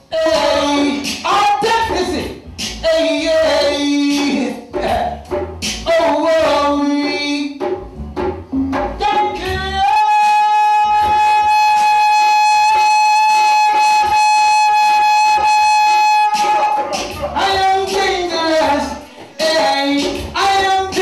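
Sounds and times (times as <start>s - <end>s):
man singing reggae: 0.0s - 7.8s, 8.5s - 21.0s
backing track with bass beat: 0.0s - 21.0s.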